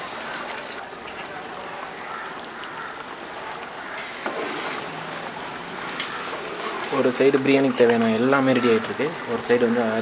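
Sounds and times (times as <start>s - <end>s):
water boiling in a pot: 0.0s - 10.0s.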